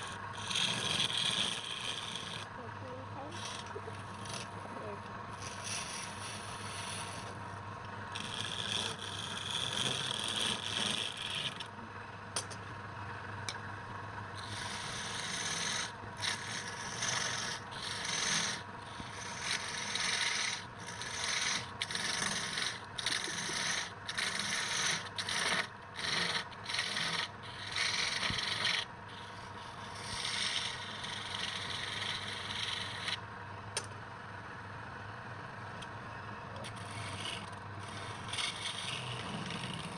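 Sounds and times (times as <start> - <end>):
tool scraping spinning wood: 0.0 - 34.1, 35.8 - 39.9
wood lathe motor hum: 0.0 - 39.9.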